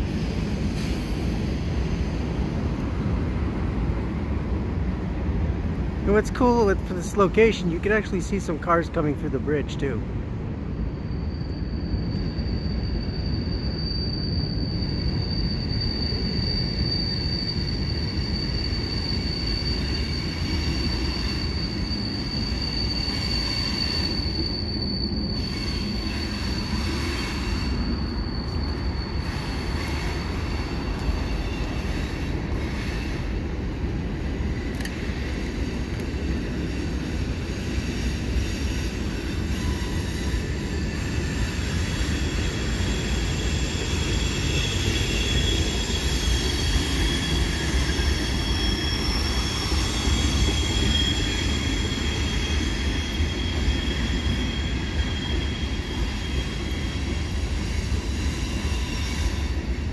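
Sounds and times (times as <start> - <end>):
train cars rumbling: 0.0 - 59.9
high-pitched wheel squeal: 10.8 - 33.6, 34.4 - 59.9.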